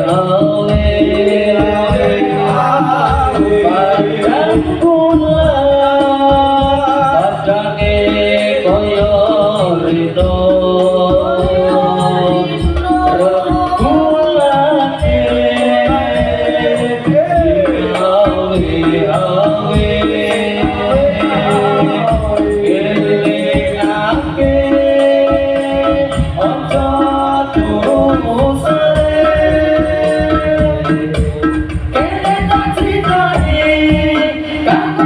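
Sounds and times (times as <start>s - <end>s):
jingling hand percussion: 0.0s - 35.0s
person singing a slow devotional song: 0.0s - 35.0s.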